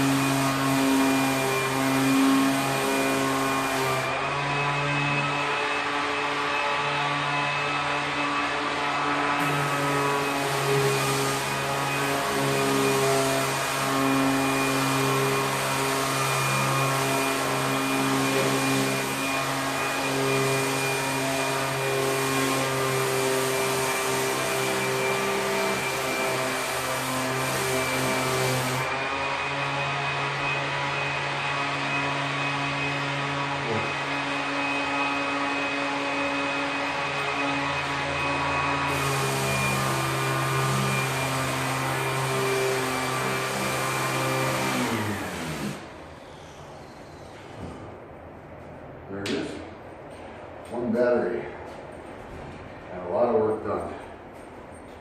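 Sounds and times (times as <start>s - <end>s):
orbit sander sanding a wall: 0.0s - 47.8s.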